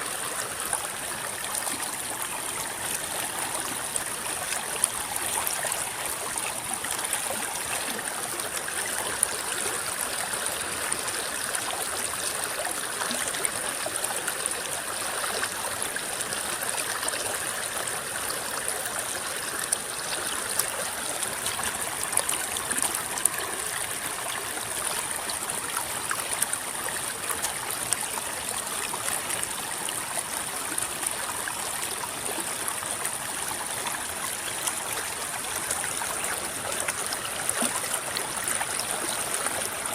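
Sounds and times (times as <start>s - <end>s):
river water rushing: 0.0s - 39.9s
water splashes and gurgles: 0.0s - 39.9s.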